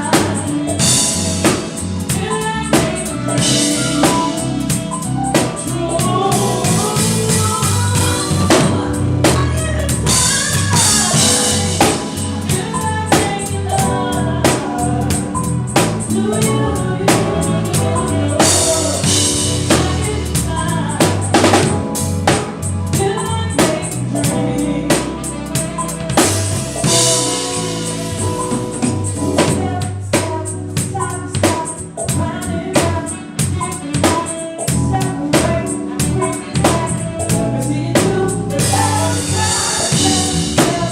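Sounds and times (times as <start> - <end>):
band playing: 0.0 - 40.9
person singing: 0.0 - 40.9.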